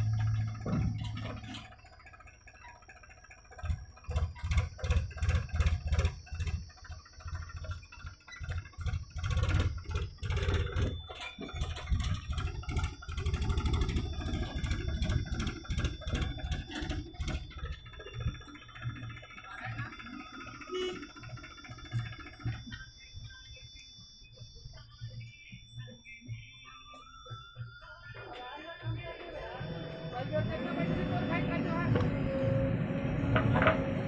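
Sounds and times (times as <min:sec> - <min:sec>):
diesel engine working under load: 0:00.0 - 0:25.6, 0:28.0 - 0:34.0.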